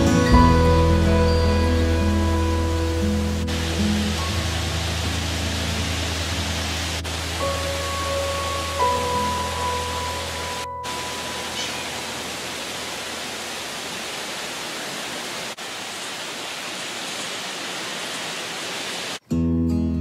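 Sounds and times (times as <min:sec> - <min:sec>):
heavy rain pouring: 0:01.1 - 0:19.2.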